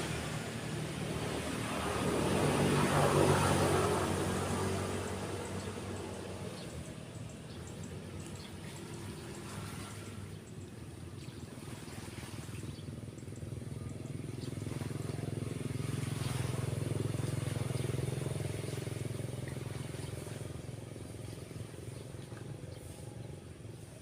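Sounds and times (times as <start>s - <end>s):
waves breaking on beach: 0.0s - 23.8s
motorcycle passing by: 0.0s - 24.0s.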